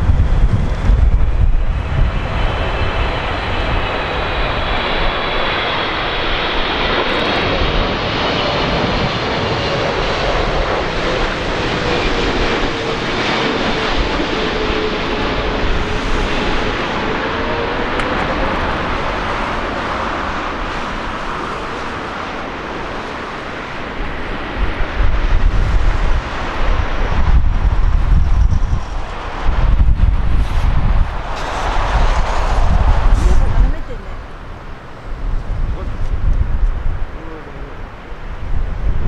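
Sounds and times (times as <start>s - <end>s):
jet engines passing overhead: 0.0s - 39.0s.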